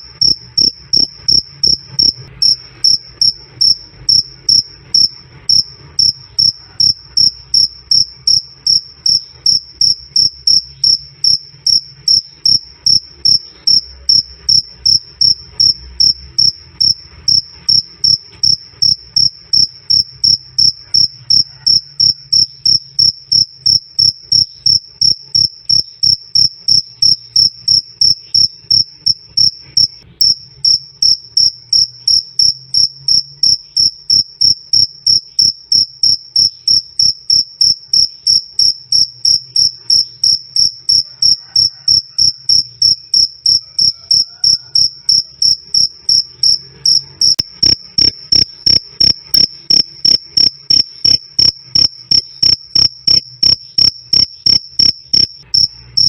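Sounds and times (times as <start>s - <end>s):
cricket chirping: 0.0s - 56.0s.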